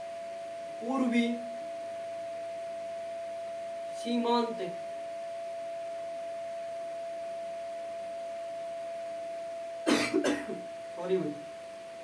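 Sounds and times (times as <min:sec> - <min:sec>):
single-pitch whine: 0:00.0 - 0:12.0.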